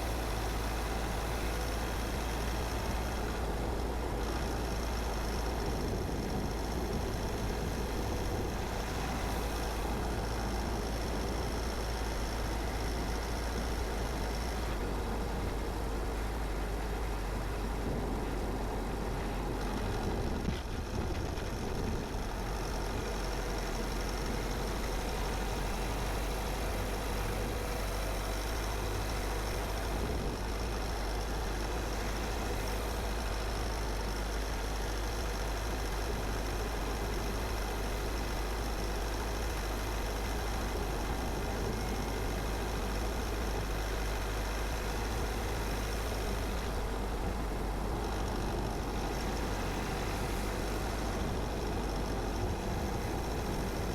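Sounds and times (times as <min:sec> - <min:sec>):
car engine running: 0:00.0 - 0:53.9
road noise: 0:00.0 - 0:53.9.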